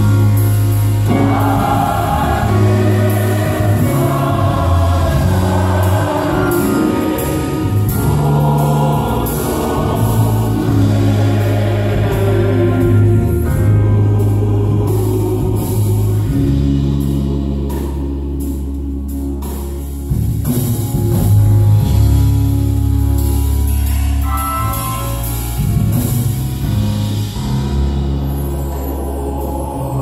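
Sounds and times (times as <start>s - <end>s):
gospel choir singing: 0.0s - 20.2s, 25.2s - 30.0s
piano accompaniment: 0.0s - 30.0s.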